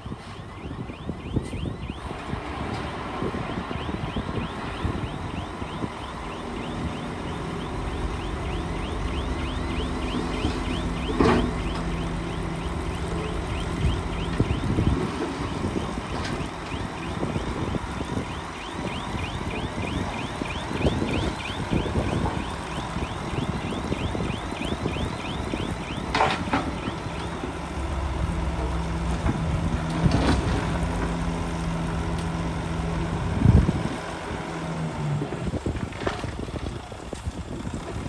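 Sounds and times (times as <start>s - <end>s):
diesel earthmoving machinery: 0.0s - 38.0s
steady engine hum: 0.7s - 38.0s.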